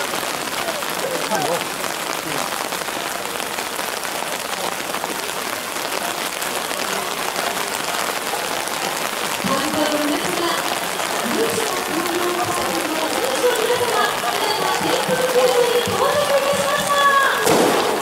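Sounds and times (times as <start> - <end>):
rain pattering on umbrellas: 0.0 - 18.0.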